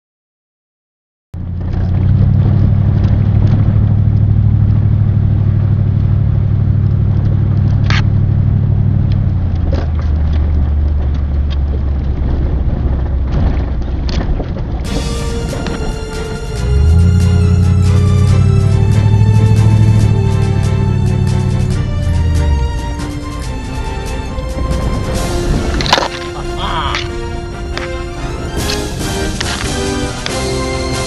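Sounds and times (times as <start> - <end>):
vehicle engine and road noise: 1.4 - 31.0.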